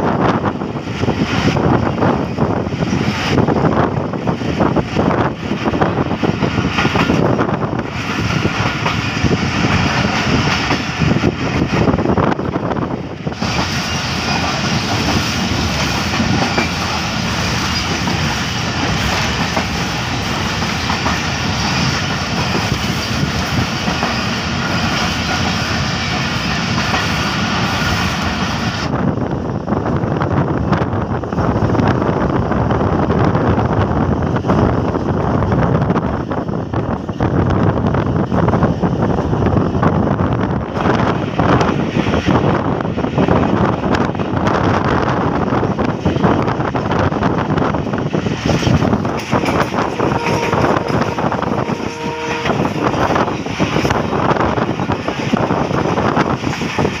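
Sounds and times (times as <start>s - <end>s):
train wheels clattering over rails: 0.0s - 29.0s, 33.1s - 57.0s
rushing air: 0.0s - 57.0s
wind on microphone: 0.0s - 57.0s.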